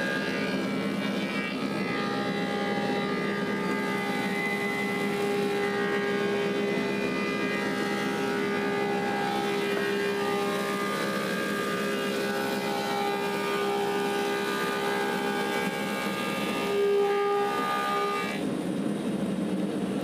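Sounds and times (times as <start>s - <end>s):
planer machine hum: 0.0s - 18.5s.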